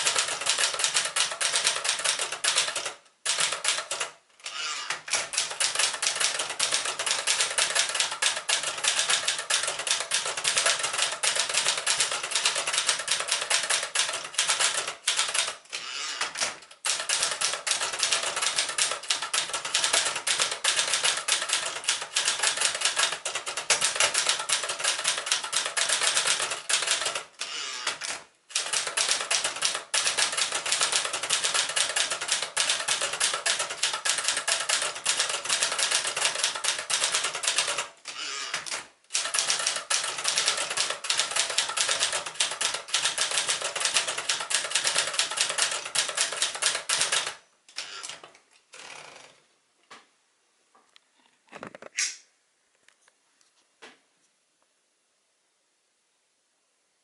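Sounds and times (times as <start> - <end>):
typewriter typing: 0.0 - 48.3.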